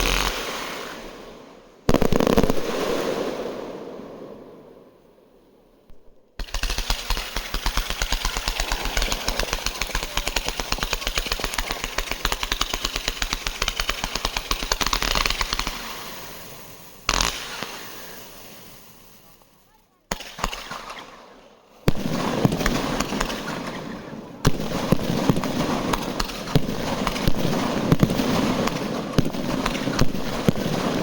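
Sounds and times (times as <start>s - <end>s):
fireworks bangs: 0.0s - 19.4s, 20.1s - 31.0s.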